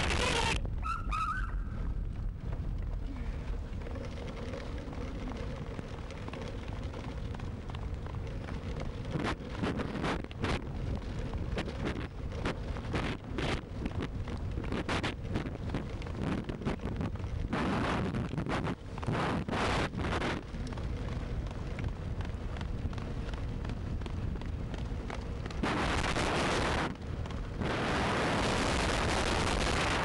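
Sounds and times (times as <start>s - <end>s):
wheeled rig rumbling on dirt: 0.0s - 30.0s
wind buffeting microphone: 0.0s - 30.0s.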